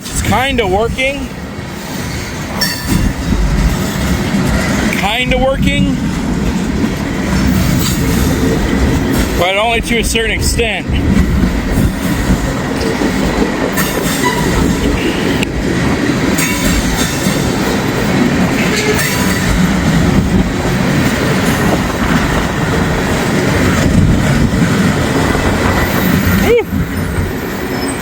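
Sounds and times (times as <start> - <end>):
wind buffeting microphone: 0.0 - 27.9
freight train cars rumbling past: 0.0 - 28.0
wheels clicking over rail joints: 0.0 - 28.0.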